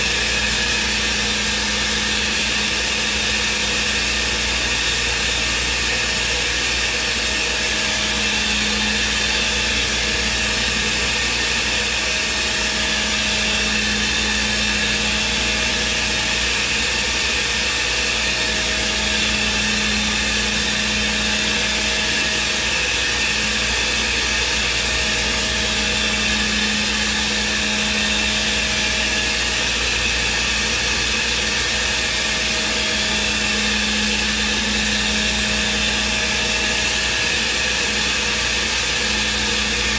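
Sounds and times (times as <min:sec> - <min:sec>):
router spindle whine and hiss: 0:00.0 - 0:39.9.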